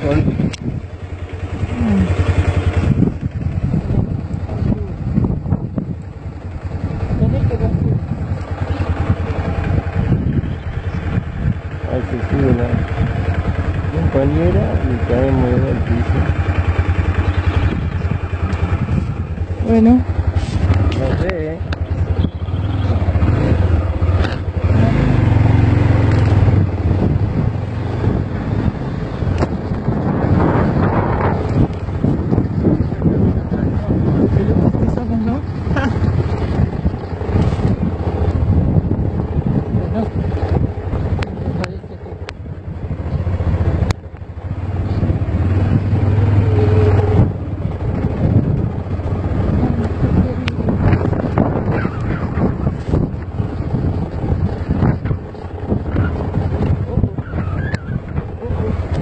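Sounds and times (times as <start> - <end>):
motorcycle engine running: 0.0 - 59.0
wind on microphone: 0.0 - 59.0.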